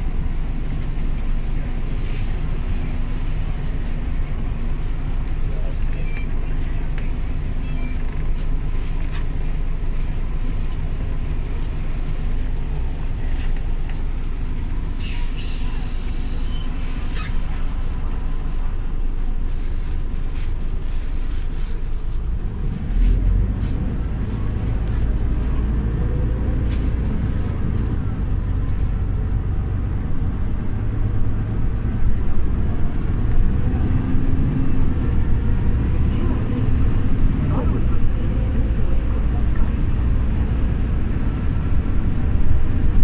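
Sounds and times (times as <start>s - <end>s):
bus diesel engine running: 0.0s - 43.0s.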